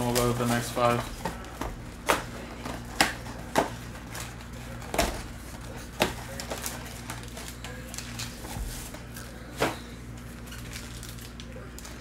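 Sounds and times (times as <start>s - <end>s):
foil packs crinkling: 0.0s - 12.0s.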